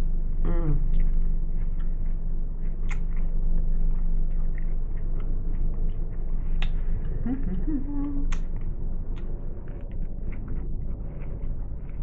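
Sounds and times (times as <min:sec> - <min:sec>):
steady low hum: 0:00.0 - 0:12.0
wet chewing mouth clicks: 0:00.7 - 0:12.0.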